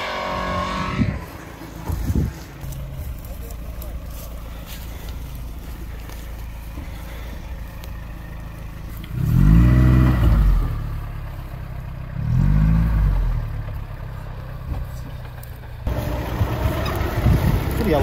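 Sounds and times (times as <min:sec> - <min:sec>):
car engine revving: 0:00.0 - 0:15.1, 0:15.8 - 0:18.0.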